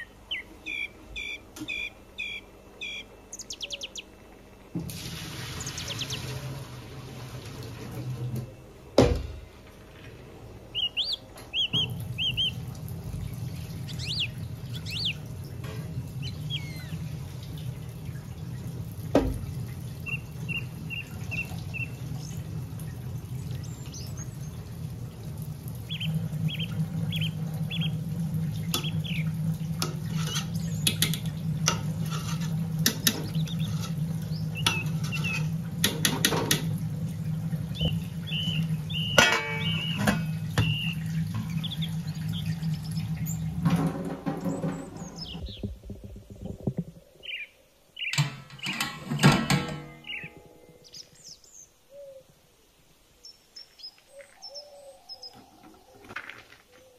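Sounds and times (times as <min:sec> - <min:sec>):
small birds chirping: 0:00.0 - 0:04.6, 0:05.5 - 0:06.4, 0:10.6 - 0:19.0, 0:19.6 - 0:32.2, 0:32.8 - 0:36.1, 0:37.0 - 0:43.6, 0:44.3 - 0:48.8, 0:50.0 - 0:52.4, 0:53.1 - 0:56.9
steady low hum: 0:00.0 - 0:55.9.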